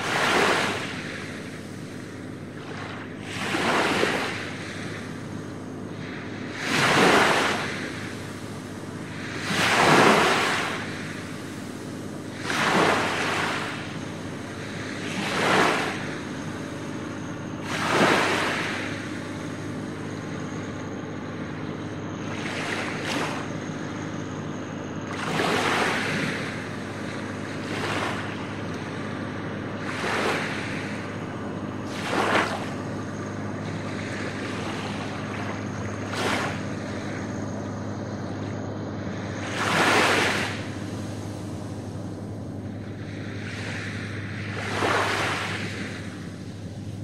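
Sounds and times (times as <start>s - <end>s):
small waves breaking on beach: 0.0s - 47.0s.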